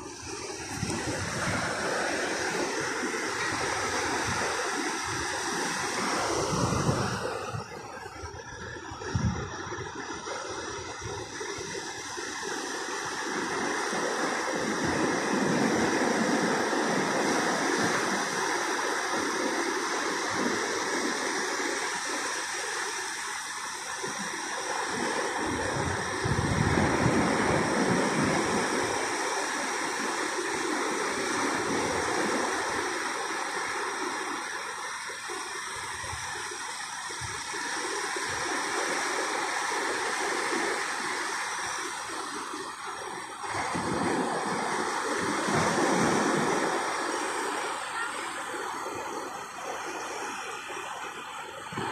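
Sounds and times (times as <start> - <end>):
ocean surf on beach: 0.0 - 51.9.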